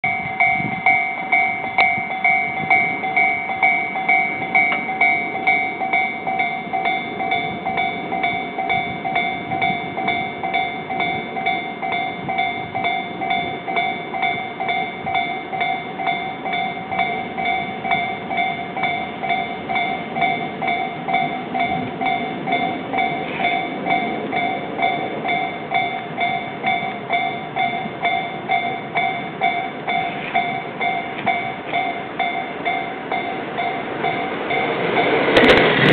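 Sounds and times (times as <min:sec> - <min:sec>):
level crossing warning bell ringing: 0:00.0 - 0:35.9.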